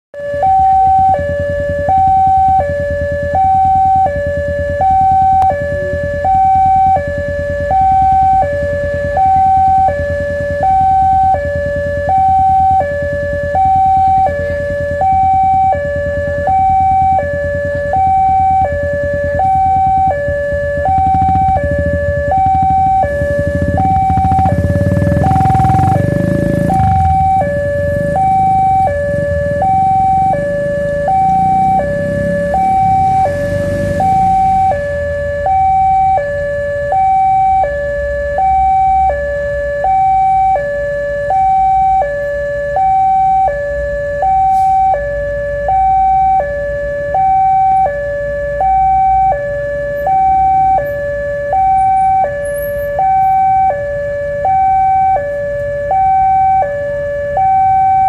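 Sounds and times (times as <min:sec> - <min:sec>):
two-tone electronic alarm: 0:00.2 - 0:58.0.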